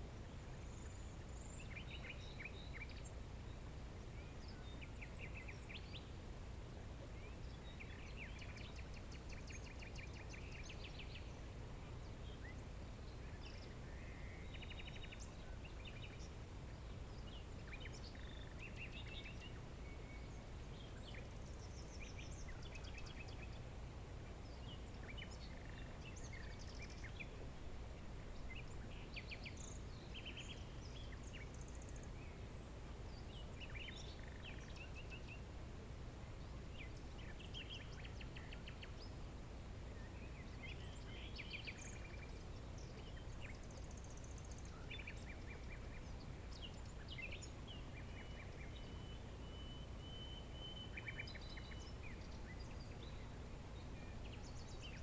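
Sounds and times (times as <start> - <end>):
faint songbirds chirping: 0.0 - 55.0.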